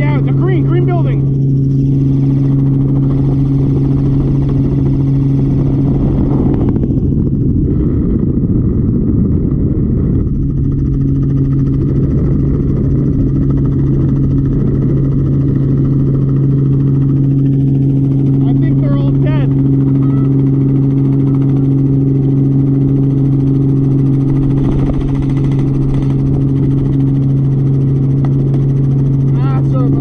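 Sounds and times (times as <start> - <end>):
low engine drone: 0.0 - 30.0
rush of noise: 0.0 - 30.0.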